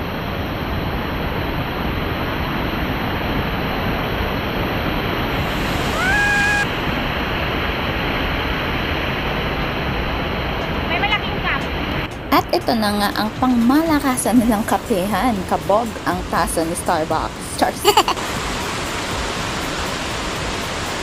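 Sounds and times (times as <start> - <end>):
water rushing from waterfalls: 0.0 - 12.1, 13.5 - 21.0.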